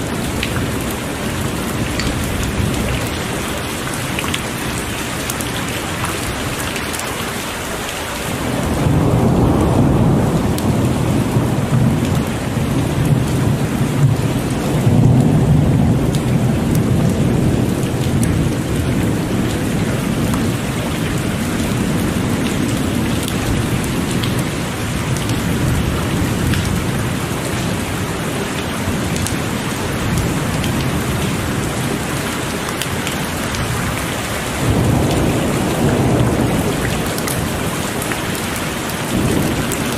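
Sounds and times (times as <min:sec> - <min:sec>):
rolling thunder rumble: 0:00.0 - 0:06.8, 0:08.3 - 0:39.9
heavy rain falling: 0:00.0 - 0:39.9.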